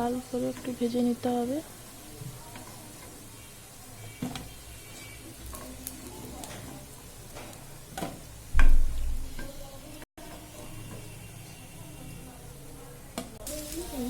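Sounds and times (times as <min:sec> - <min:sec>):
fritters sizzling in oil: 0:00.0 - 0:14.0.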